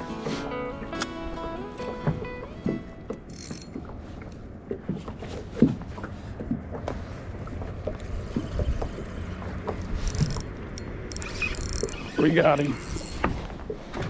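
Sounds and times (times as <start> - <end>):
wind and water rumble: 0.0 - 14.0.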